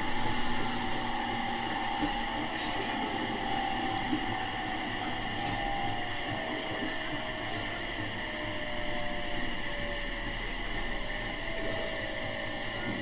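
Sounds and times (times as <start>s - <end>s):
electric train running: 0.0s - 13.0s
train motor whine: 0.0s - 13.0s.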